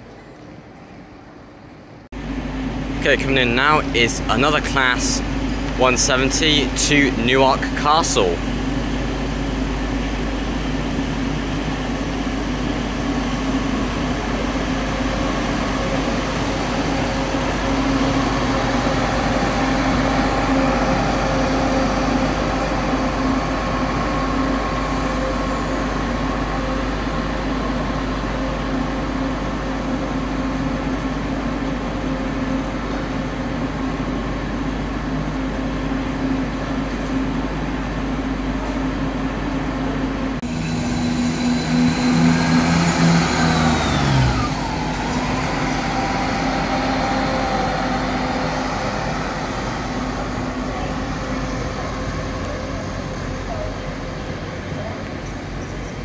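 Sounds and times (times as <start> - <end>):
train diesel engines humming: 0.0 - 56.0.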